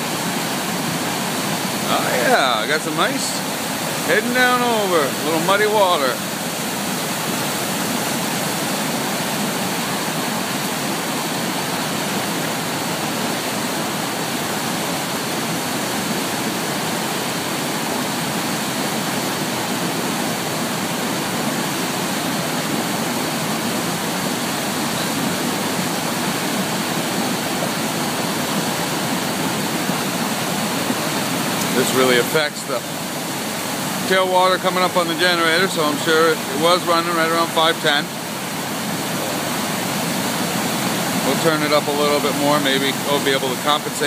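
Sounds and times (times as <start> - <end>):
water rushing through floodgates: 0.0 - 44.0.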